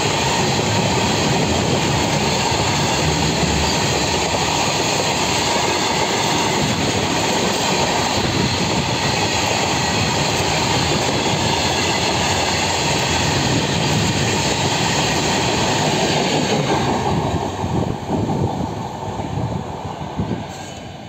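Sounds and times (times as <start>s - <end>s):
goods train wheels rumbling: 0.0s - 21.0s.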